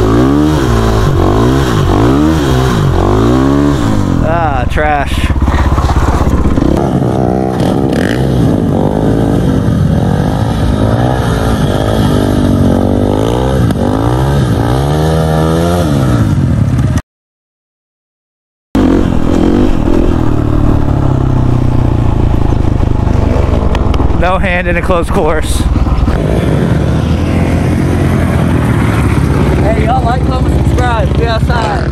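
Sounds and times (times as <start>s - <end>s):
dirt bike engine revving: 0.0s - 17.0s, 18.8s - 31.9s.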